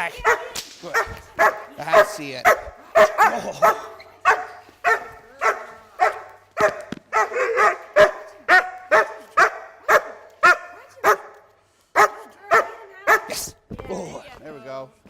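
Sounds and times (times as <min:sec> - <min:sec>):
dog barking: 0:00.0 - 0:13.5.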